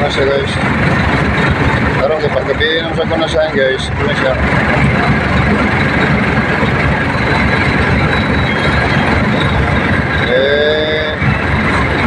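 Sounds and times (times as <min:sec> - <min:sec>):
rising squeal: 0:00.0 - 0:12.0
truck engine running: 0:00.0 - 0:12.0.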